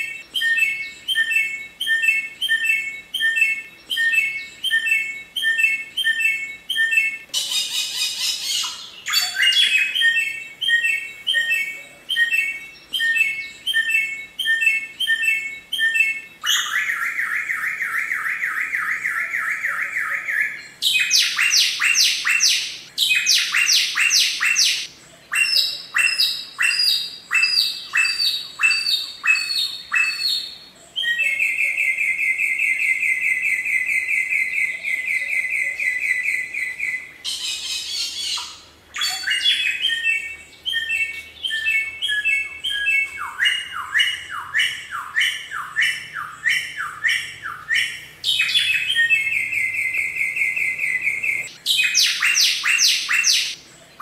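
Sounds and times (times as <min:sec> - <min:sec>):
songbird singing trills: 0:00.0 - 0:54.0.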